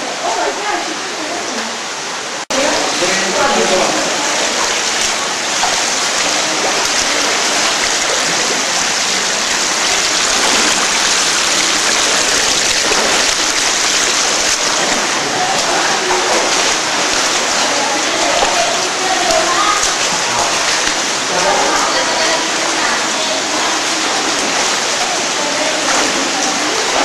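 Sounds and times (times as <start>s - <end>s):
flowing stream water: 0.0s - 27.0s.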